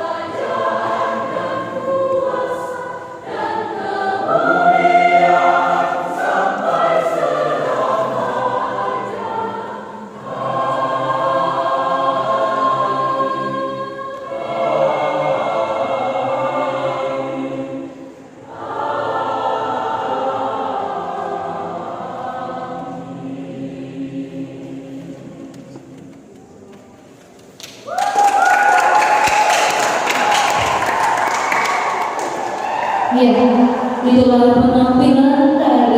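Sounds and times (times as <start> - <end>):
church choir singing: 0.0 - 27.3, 28.6 - 35.9.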